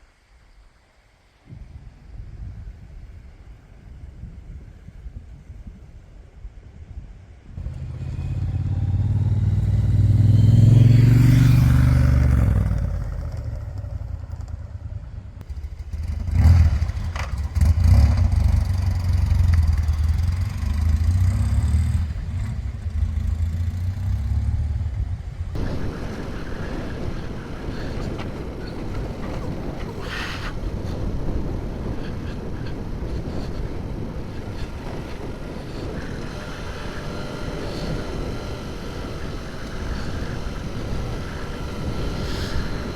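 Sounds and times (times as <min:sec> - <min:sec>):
wind and road noise while riding: 0:00.0 - 0:42.9
motorcycle engine revving: 0:07.6 - 0:30.1, 0:30.8 - 0:42.9.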